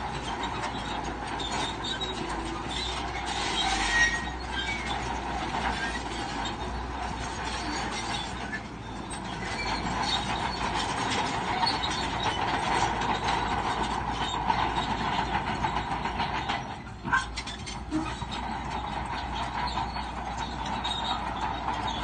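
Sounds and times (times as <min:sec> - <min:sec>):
diesel engine running: 0:00.0 - 0:22.0
steel tracks clanking and rattling: 0:00.0 - 0:22.0.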